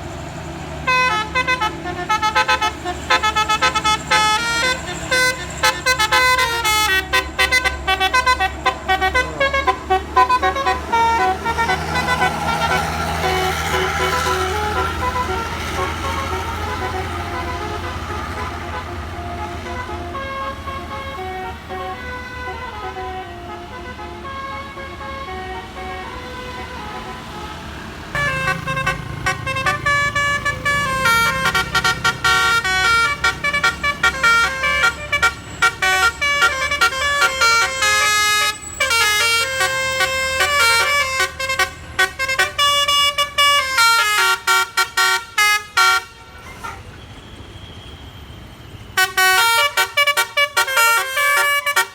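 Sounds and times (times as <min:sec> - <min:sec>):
bus engine running: 0:00.0 - 0:51.9
multi-tone air horn tune: 0:00.9 - 0:47.0, 0:49.0 - 0:51.9.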